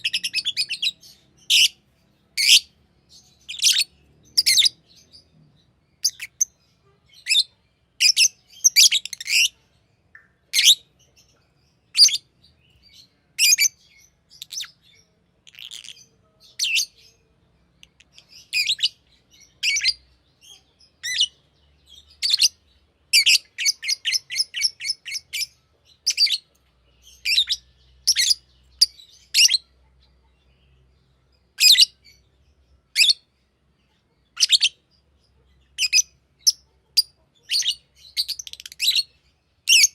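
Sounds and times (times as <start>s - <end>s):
lovebird chirping: 0.0s - 39.9s.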